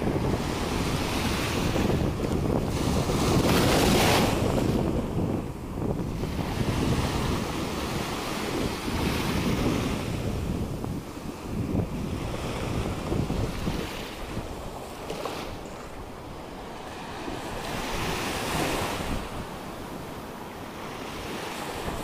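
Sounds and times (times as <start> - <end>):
surf breaking on beach: 0.0 - 20.1
wind buffeting microphone: 0.0 - 22.0.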